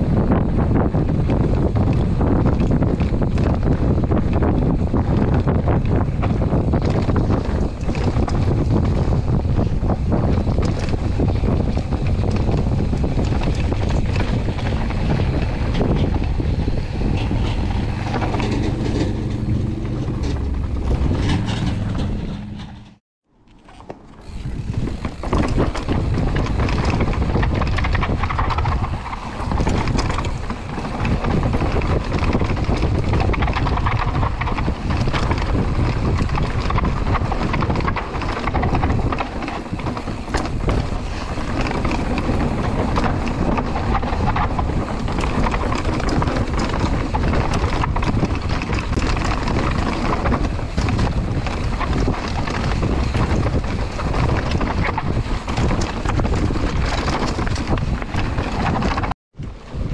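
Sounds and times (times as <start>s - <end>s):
bike rattling: 0.0s - 59.9s
bike tyres rumbling over stones: 0.0s - 59.9s
wind buffeting microphone: 0.0s - 59.9s.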